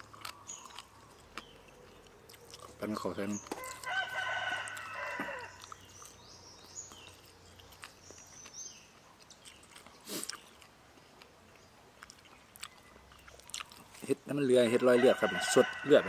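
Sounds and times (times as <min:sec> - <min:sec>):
wet chewing and mouth smacks: 0:00.0 - 0:14.2.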